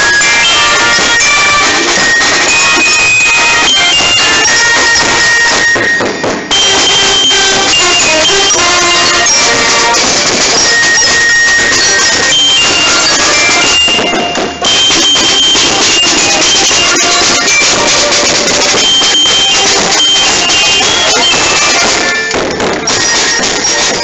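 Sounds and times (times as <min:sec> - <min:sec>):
marching band playing: 0:00.0 - 0:24.0.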